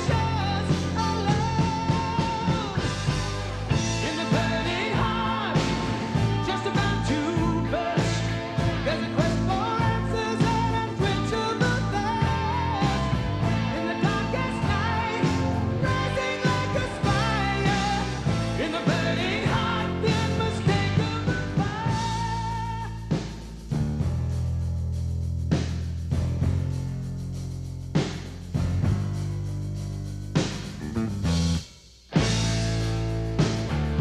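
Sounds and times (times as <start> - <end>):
rock song with singing: 0.0 - 24.5, 30.4 - 34.0
steady drum beat: 0.0 - 34.0.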